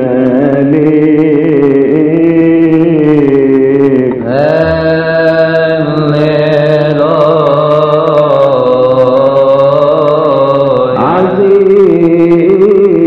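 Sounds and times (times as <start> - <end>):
high ticks: 0.0 - 13.0
voices chanting: 0.1 - 12.9.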